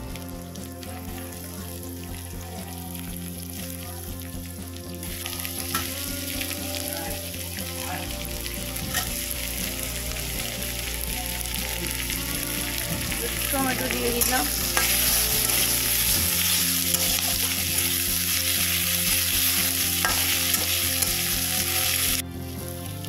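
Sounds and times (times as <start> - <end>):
vegetables sizzling in hot oil: 0.9 - 23.0.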